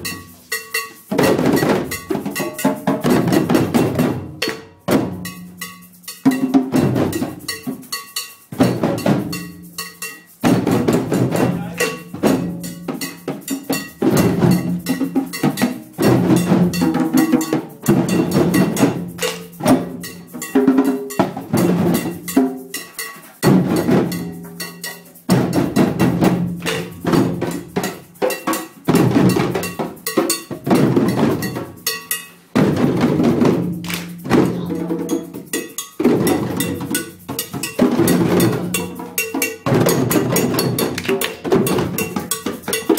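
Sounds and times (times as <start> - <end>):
djembes played by hand: 0.0 - 42.9.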